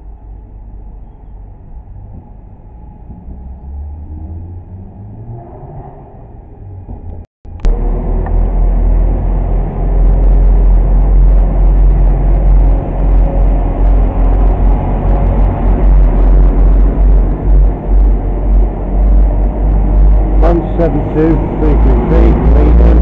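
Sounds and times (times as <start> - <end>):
diesel train engines rumbling: 0.0 - 5.0, 5.9 - 23.0.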